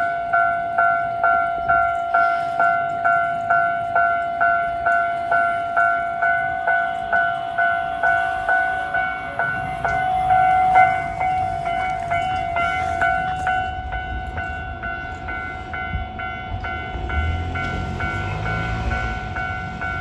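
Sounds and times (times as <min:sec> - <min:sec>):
freight train rumbling: 0:00.0 - 0:20.0
level crossing warning bell ringing: 0:00.0 - 0:20.0.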